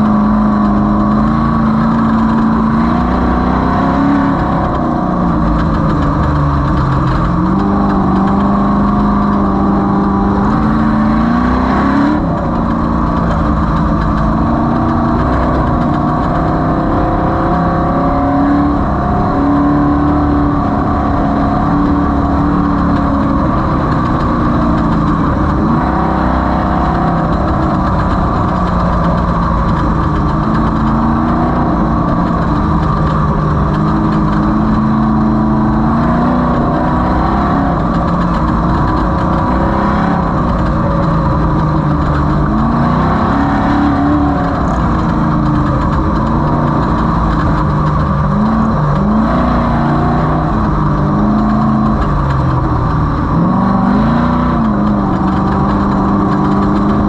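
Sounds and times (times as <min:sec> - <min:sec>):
race vehicle engine revving: 0:00.0 - 0:57.0
steady rushing noise: 0:00.0 - 0:57.0.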